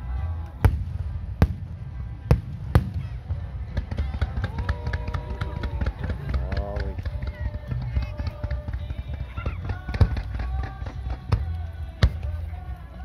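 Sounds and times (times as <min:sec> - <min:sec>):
music: 0:00.0 - 0:13.0
firework bangs: 0:00.6 - 0:12.3
fireworks crackling: 0:00.6 - 0:13.0.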